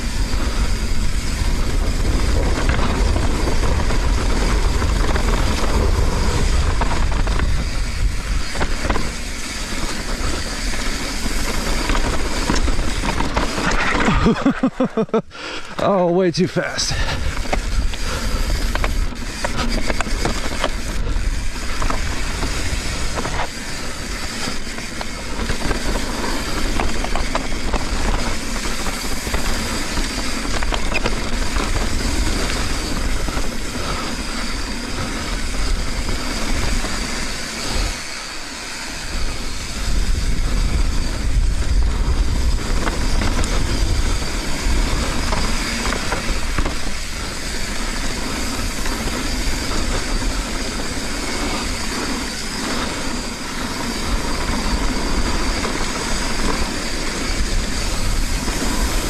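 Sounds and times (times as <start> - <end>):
wind buffeting microphone: 0.0 - 14.4, 16.4 - 38.1, 39.0 - 59.0
bike rattling over bumps: 0.0 - 15.9, 16.8 - 59.0.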